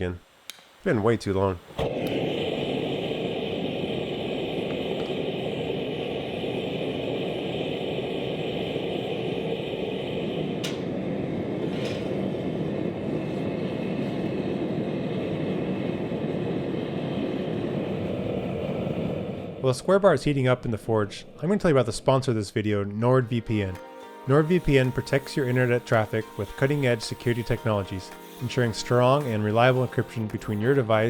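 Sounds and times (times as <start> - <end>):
forge rushing noise: 0.9 - 31.0.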